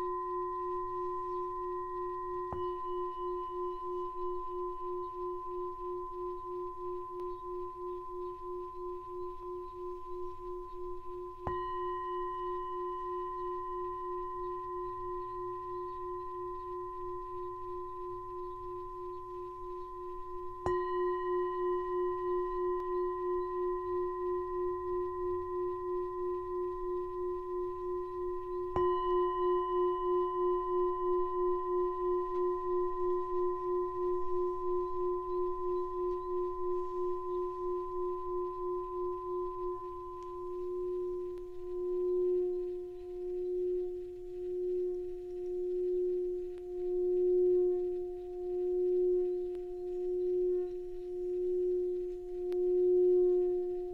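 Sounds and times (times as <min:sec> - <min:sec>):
singing bowl ringing: 0:00.0 - 0:53.9.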